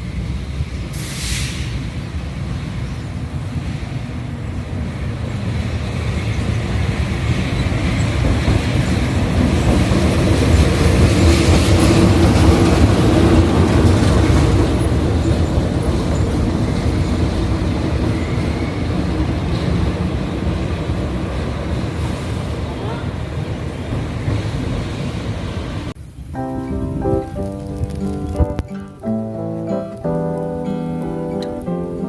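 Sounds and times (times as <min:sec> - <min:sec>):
train wheel noise: 0:00.0 - 0:26.3.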